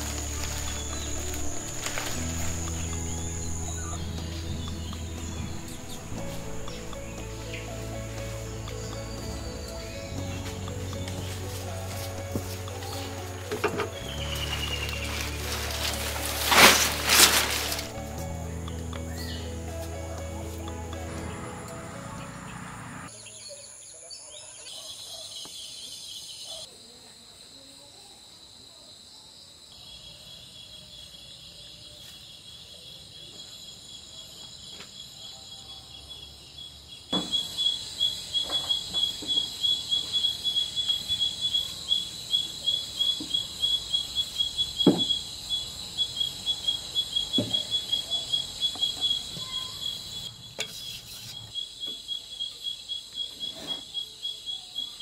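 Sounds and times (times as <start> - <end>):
crickets trilling: 0.0 - 24.9, 25.5 - 55.0.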